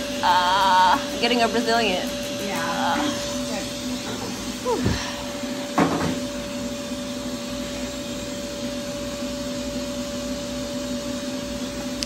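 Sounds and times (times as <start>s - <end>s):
cooling unit blowing air: 0.0s - 12.0s.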